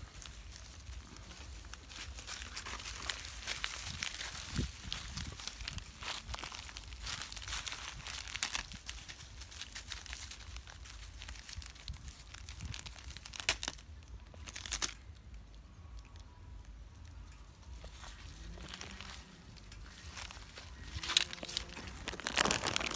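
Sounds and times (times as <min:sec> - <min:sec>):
plastic packet crinkling: 0:01.6 - 0:15.1, 0:17.9 - 0:22.9.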